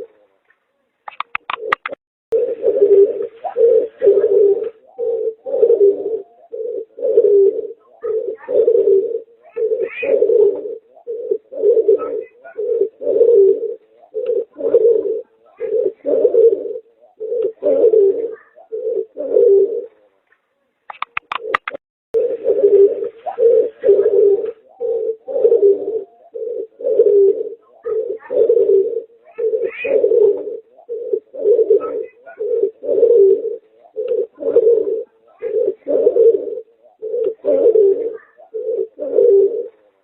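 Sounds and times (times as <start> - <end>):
dove cooing: 0.0 - 20.2, 20.9 - 40.0.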